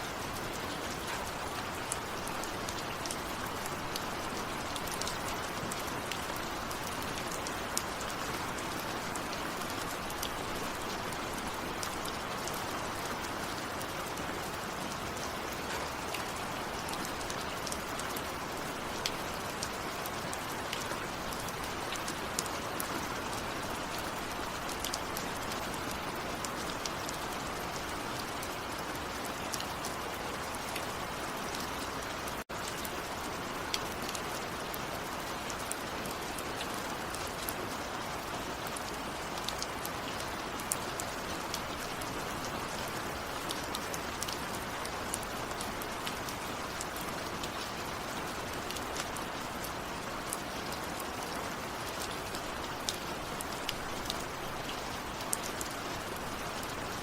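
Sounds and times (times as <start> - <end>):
rain falling on a surface: 0.0 - 57.0.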